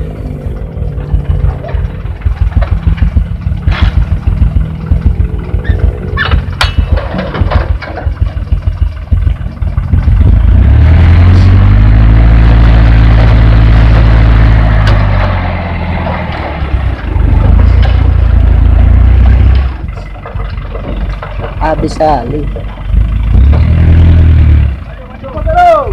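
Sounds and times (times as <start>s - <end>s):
truck engine revving: 0.0s - 25.5s.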